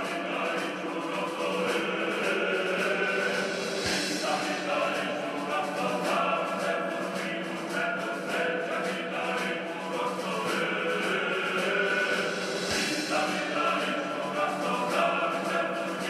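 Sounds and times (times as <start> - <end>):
choir chanting with music: 0.0 - 16.0.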